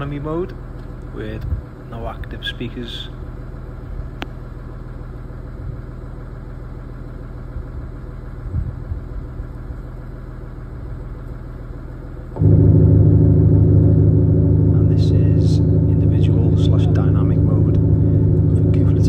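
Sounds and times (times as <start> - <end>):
deep steady exhaust hum: 0.0 - 19.0
diesel engine idling: 0.0 - 19.0.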